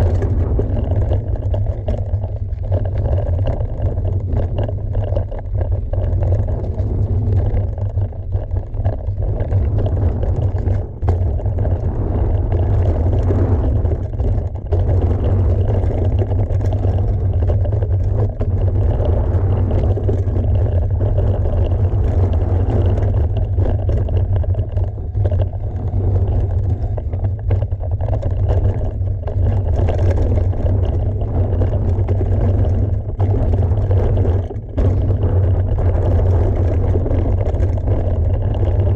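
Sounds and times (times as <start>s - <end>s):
tyre noise on dirt trail: 0.0s - 38.9s
wind rumbling on microphone: 0.0s - 38.9s.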